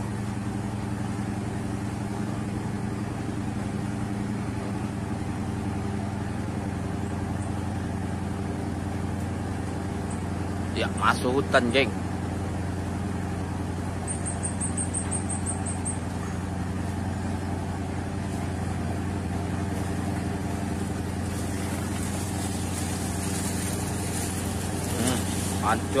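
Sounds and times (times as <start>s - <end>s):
ship engine humming: 0.0s - 26.0s.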